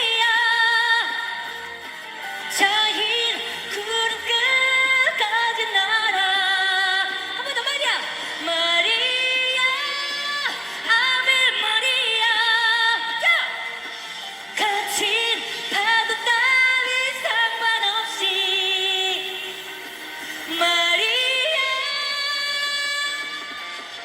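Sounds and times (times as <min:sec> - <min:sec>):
woman singing wordlessly: 0:00.0 - 0:01.6, 0:02.5 - 0:13.8, 0:14.6 - 0:19.6, 0:20.5 - 0:24.0
live backing music: 0:00.0 - 0:24.0.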